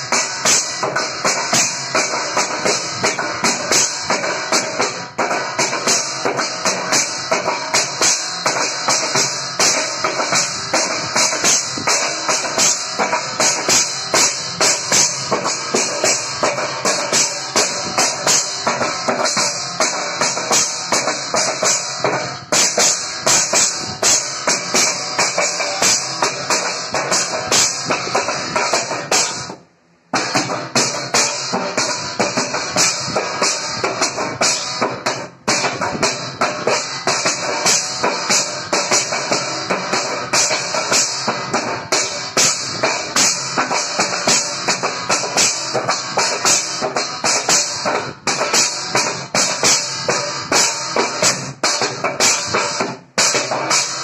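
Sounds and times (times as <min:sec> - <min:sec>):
hands drumming on metal plate: 0:00.0 - 0:54.0.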